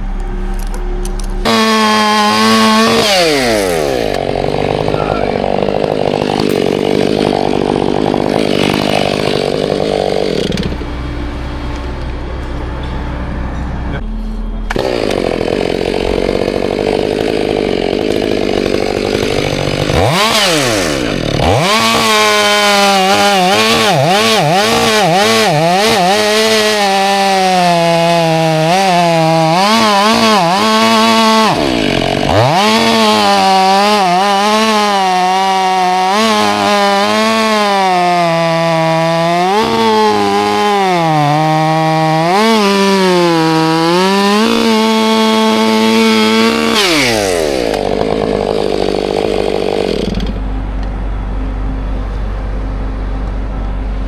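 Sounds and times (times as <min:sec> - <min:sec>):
chainsaw cutting timber: 0:01.4 - 0:10.9, 0:14.7 - 0:50.5.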